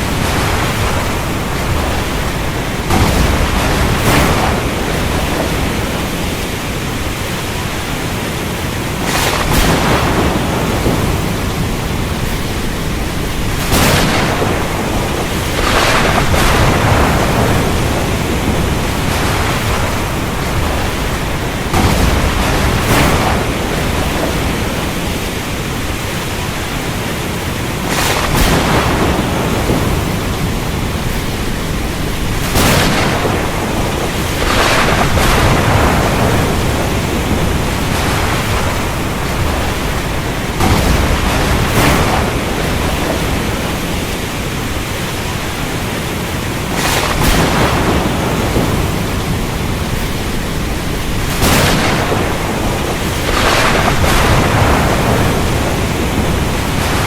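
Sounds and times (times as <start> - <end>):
thunder cracks and rumbles: 0.0 - 8.1, 8.9 - 26.0, 27.8 - 44.7, 46.7 - 57.0
heavy rain: 0.0 - 57.0.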